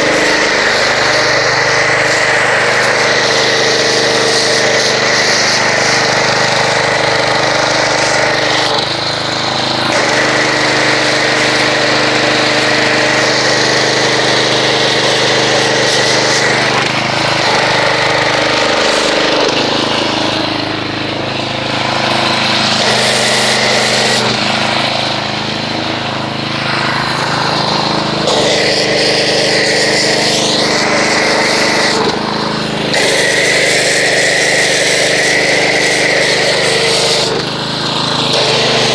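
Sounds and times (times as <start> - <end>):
pressure washer running: 0.0 - 38.9.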